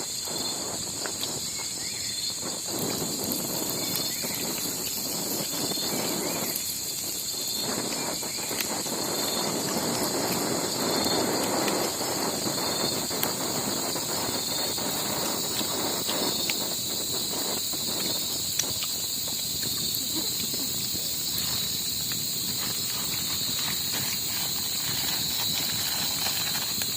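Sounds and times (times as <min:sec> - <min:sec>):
insect chorus: 0:00.0 - 0:26.9.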